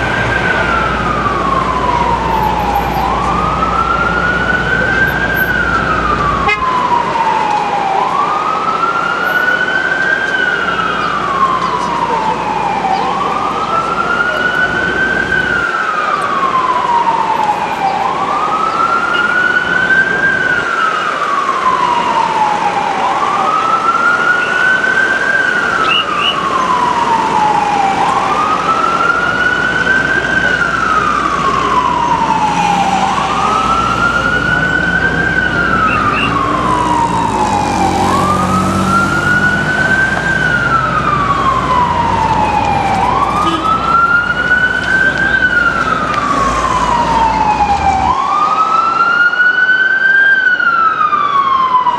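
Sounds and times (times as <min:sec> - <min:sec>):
ambulance siren wailing: 0:00.0 - 0:51.9.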